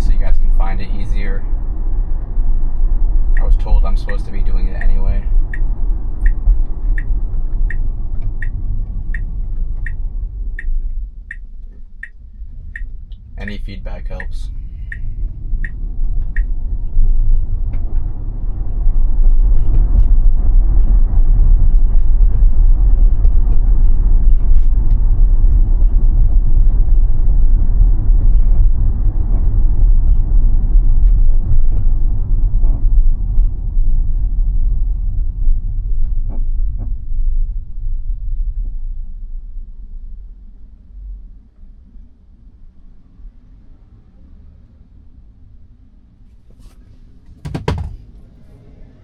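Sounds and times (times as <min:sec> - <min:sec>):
road and wind noise in car: 0:00.0 - 0:49.0.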